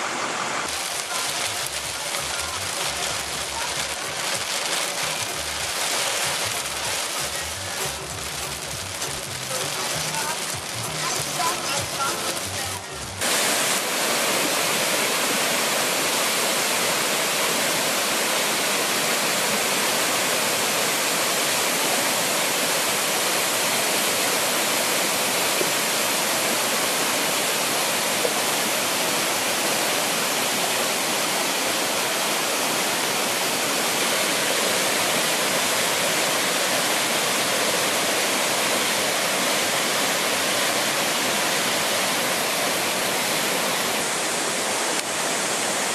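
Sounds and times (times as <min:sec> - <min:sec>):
floodwater rushing: 0:00.0 - 0:45.9.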